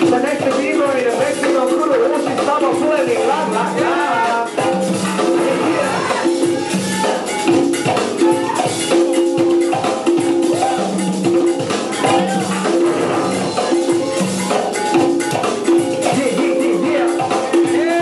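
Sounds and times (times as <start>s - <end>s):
loud music with steady beat: 0.0s - 18.0s.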